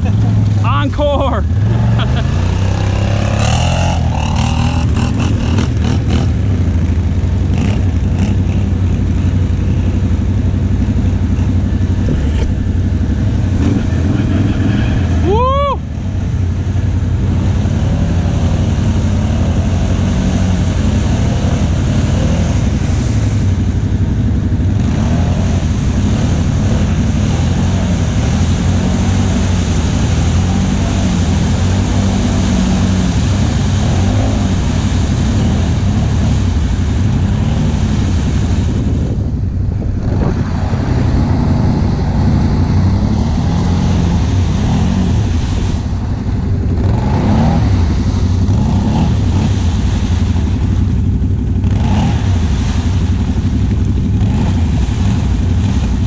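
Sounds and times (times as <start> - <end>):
atv engines revving: 0.0 - 56.0
steady rush of noise: 0.0 - 56.0.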